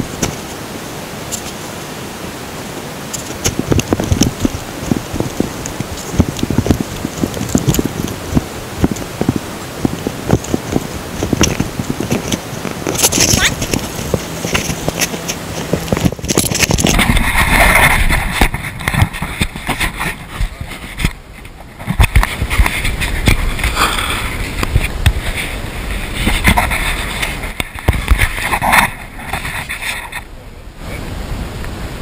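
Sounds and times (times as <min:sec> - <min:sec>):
sharp clicks and crackles: 0:03.1 - 0:25.5, 0:26.1 - 0:30.3.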